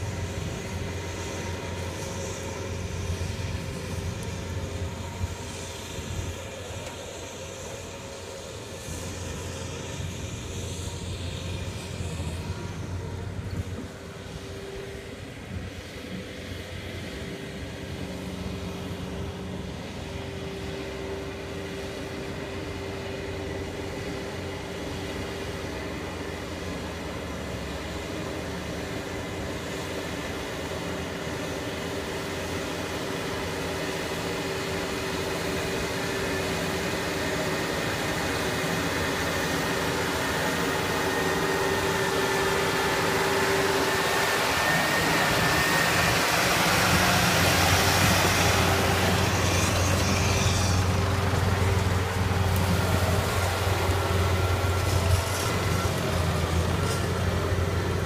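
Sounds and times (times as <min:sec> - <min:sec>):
faint high whine: 0:00.0 - 0:58.0
tractor tilling mud: 0:00.0 - 0:58.0.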